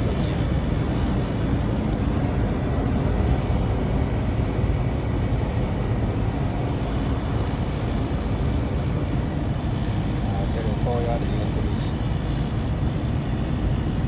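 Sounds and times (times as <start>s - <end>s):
hvac equipment drone: 0.0s - 14.0s.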